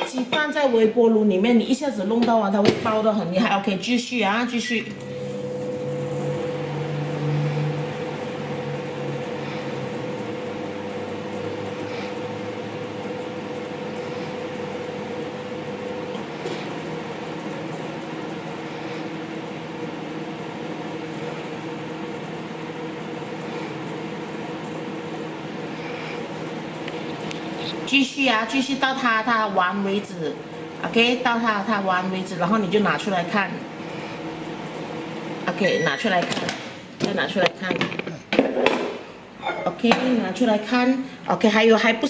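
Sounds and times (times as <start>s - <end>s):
microwave oven humming: 0.0s - 42.0s.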